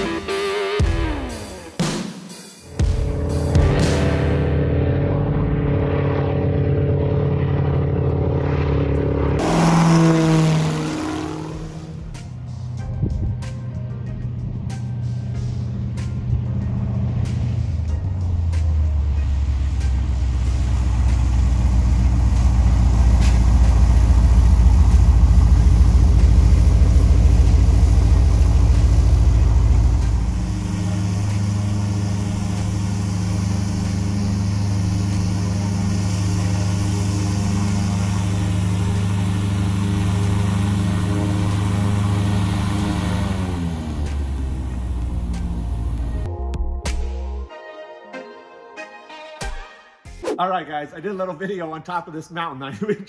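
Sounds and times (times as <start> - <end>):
propeller plane engine: 0.0 - 2.0, 2.6 - 46.4.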